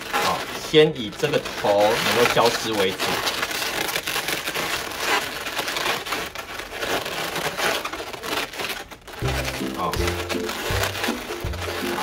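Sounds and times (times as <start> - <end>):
balloons rubbing and squeaking: 0.0 - 12.0.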